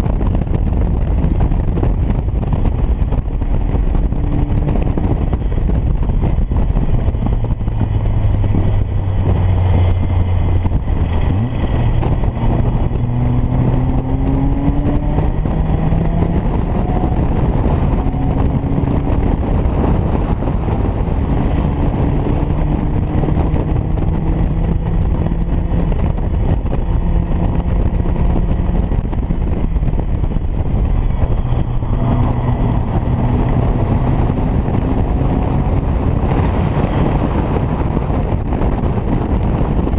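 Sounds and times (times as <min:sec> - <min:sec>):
wind and road rumble: 0:00.0 - 0:39.9
race car engine accelerating: 0:00.1 - 0:39.9.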